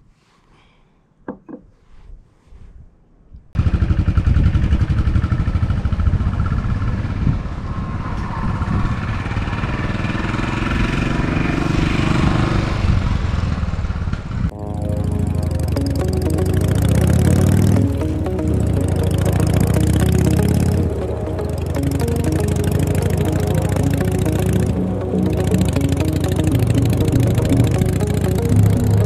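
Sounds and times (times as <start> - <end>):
motorcycle engine starting and running: 3.6 - 7.6, 8.9 - 29.0.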